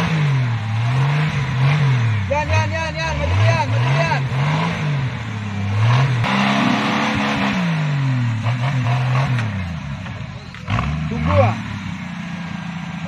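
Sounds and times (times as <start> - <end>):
tyres churning mud: 0.0 - 11.8
buggy engine revving: 0.0 - 13.0.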